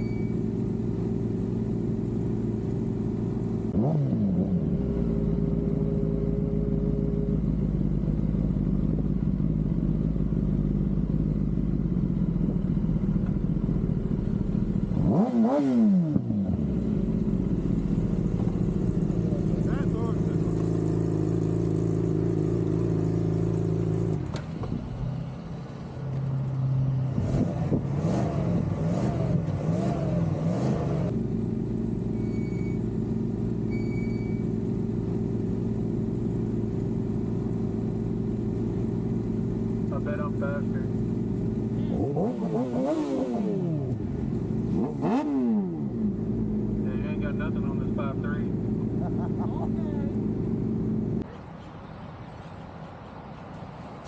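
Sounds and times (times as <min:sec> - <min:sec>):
vehicle engine revving: 0:00.0 - 0:51.3.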